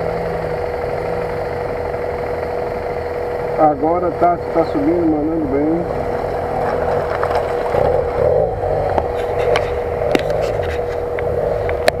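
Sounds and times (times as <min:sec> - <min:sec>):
motorcycle engine idling: 0:00.0 - 0:12.0
off-road motorcycle engine revving: 0:00.0 - 0:12.0.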